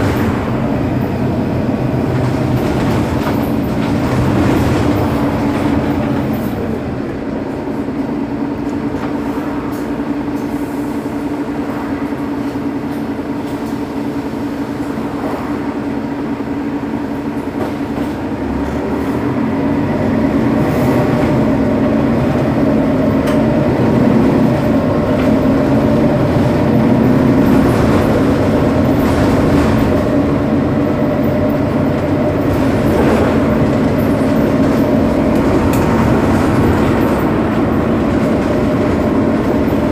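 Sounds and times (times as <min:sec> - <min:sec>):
diesel bus engine idling: 0:00.0 - 0:39.9.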